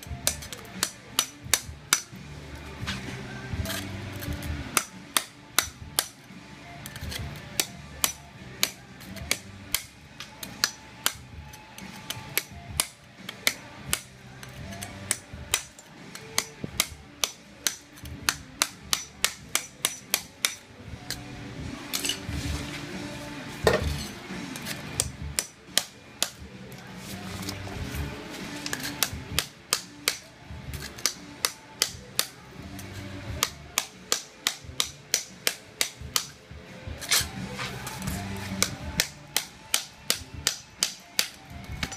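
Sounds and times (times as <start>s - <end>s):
background music: 0.0s - 41.9s.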